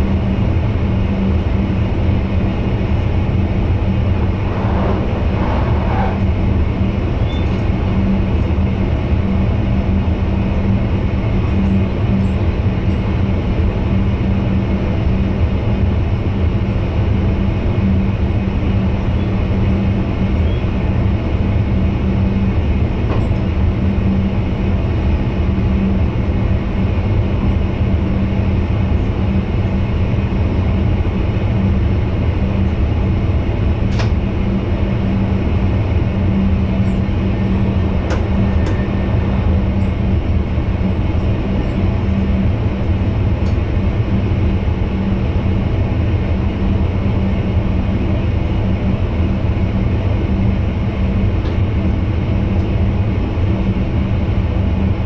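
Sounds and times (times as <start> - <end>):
train cab rumble and hum: 0.0 - 55.0.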